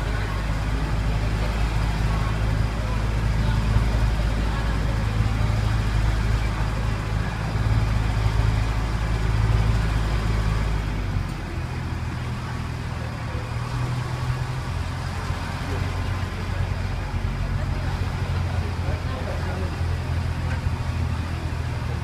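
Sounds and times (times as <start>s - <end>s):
tram engine running: 0.0s - 22.0s.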